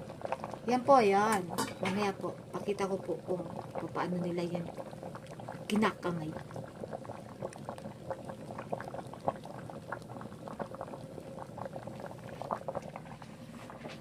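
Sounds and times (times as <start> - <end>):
broth bubbling and popping: 0.0 - 14.0.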